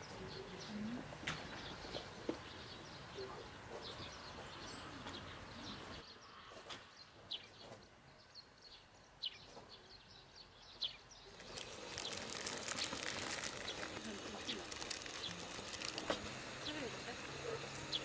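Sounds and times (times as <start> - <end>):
birds chirping: 0.0 - 18.0
faint outdoor hiss: 0.0 - 18.0.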